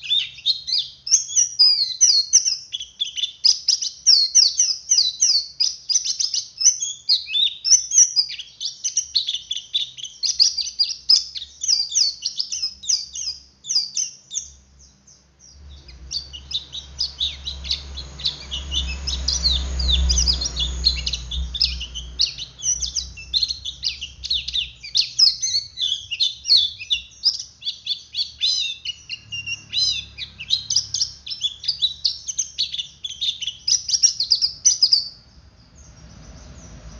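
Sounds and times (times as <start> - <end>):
bird twittering chatter: 0.0 - 36.9.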